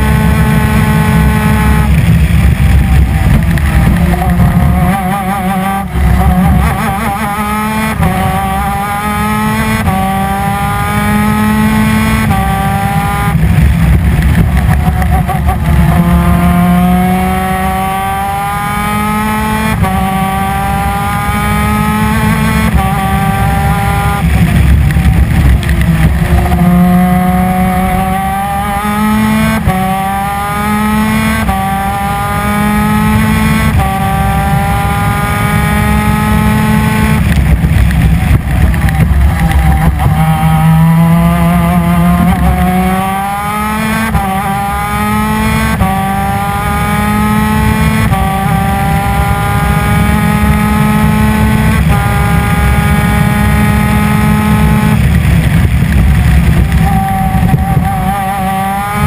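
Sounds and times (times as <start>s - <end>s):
kart engine revving through gears: 0.0s - 59.0s.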